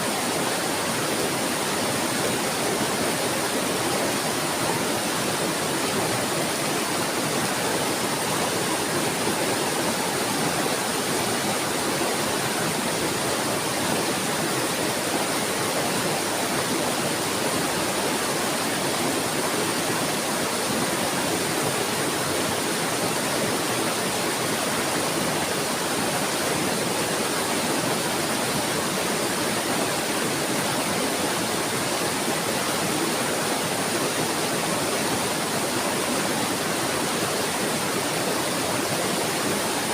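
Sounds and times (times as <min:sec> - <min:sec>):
water babbling and rushing: 0:00.0 - 0:39.9.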